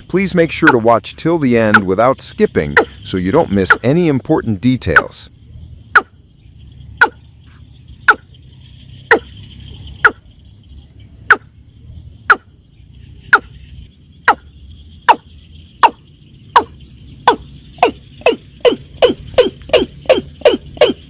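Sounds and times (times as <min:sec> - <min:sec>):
high insect hum: 0:00.0 - 0:21.0.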